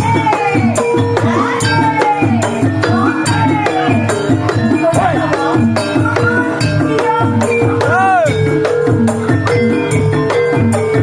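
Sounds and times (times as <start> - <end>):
music with drums and jingling percussion: 0.0 - 11.0.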